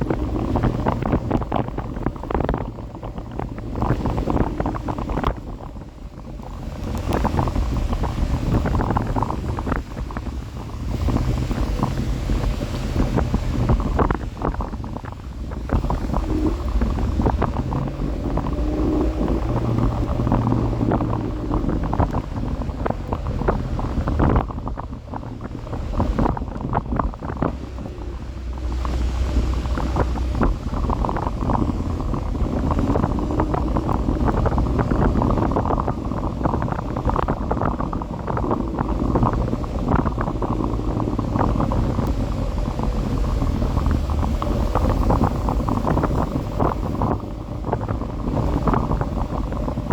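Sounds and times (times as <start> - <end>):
scooter rumble: 0.0 - 49.9
wind buffeting microphone: 0.0 - 49.9.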